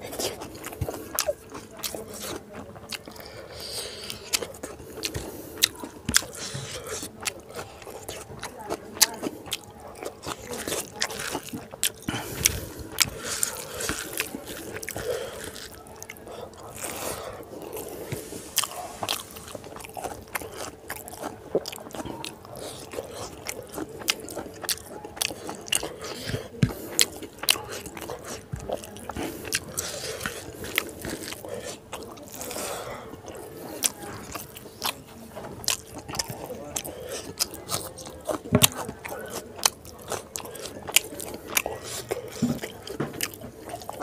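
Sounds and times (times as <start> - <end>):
chewing with wet mouth clicks: 0.0 - 44.0.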